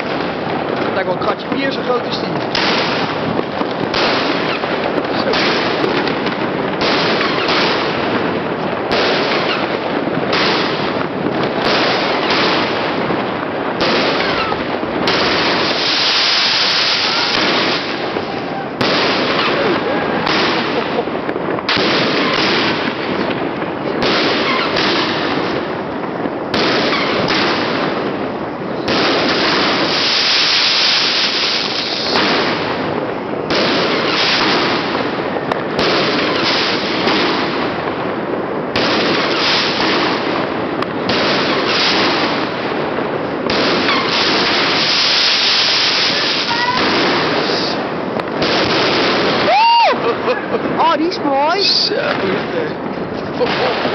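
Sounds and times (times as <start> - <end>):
fireworks launch thumps and bursts: 0.0 - 53.9
loud fireworks hissing: 0.0 - 53.9.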